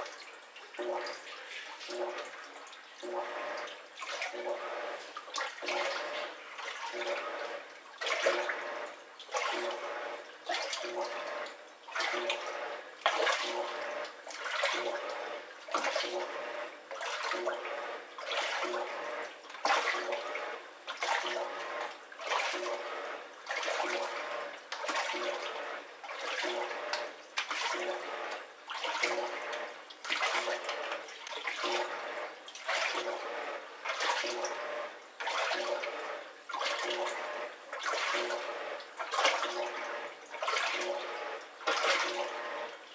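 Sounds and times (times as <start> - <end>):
washing machine motor hum: 0.0 - 42.9
washing machine water swishing: 0.0 - 42.9.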